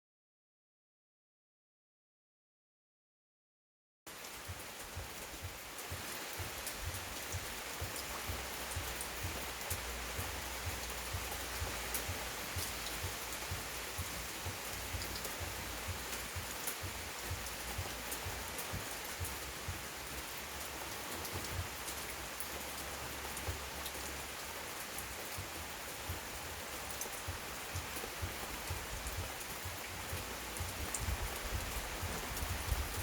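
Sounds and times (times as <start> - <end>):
heavy rain pouring: 4.1 - 33.0.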